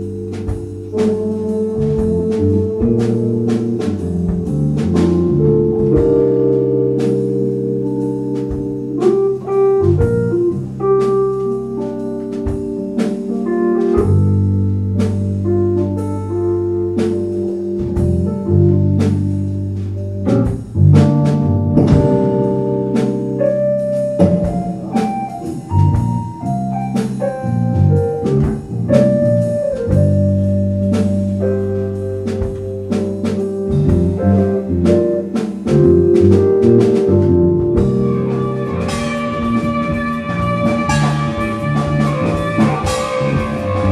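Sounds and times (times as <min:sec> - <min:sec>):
bass: 0:00.0 - 0:43.9
drum kit with cymbal hits: 0:00.0 - 0:43.9
organ-style keyboard chords: 0:00.0 - 0:43.9.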